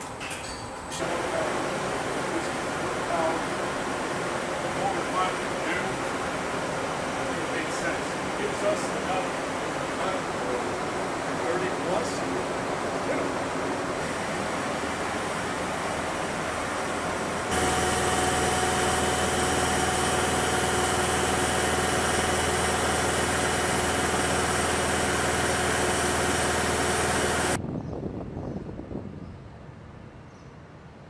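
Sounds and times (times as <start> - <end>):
electrical machinery drone: 0.0 - 27.6
steady tones: 1.2 - 27.6.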